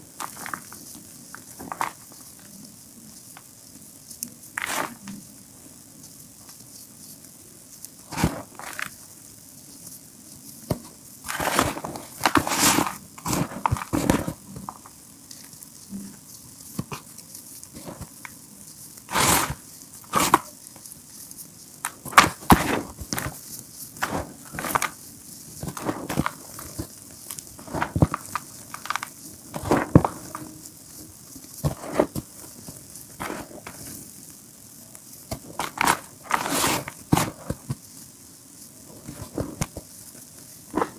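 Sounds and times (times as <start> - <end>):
chalk lumps crumbling: 0.0 - 5.4, 6.0 - 40.9.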